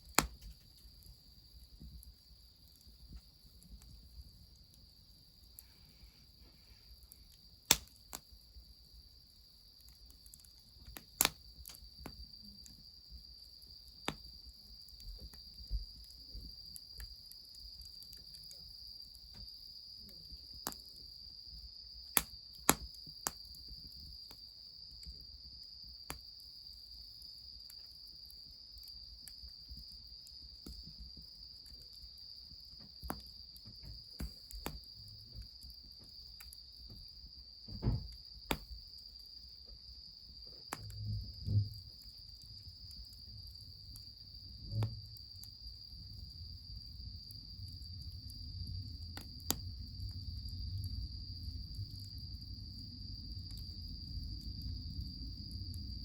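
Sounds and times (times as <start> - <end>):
wood fire crackling pops: 0.0 - 6.0, 6.6 - 8.9, 9.7 - 21.3, 21.9 - 25.3, 26.0 - 51.0
insects chirring: 0.0 - 56.0.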